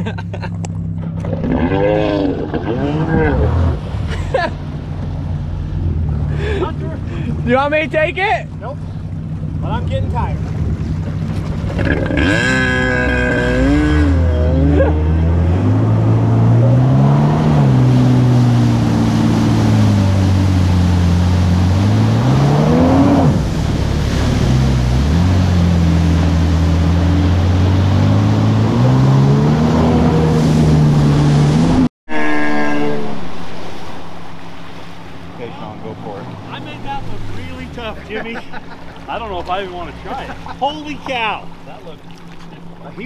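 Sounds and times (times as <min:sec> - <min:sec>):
jet ski engine revving: 0:00.0 - 0:43.0.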